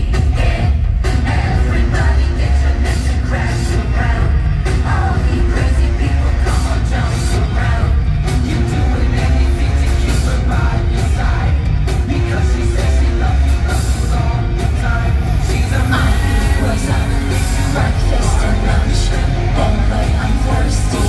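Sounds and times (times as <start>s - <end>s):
heavy driving drums: 0.0s - 21.0s
loud live rock music: 0.0s - 21.0s
person singing: 0.0s - 21.0s.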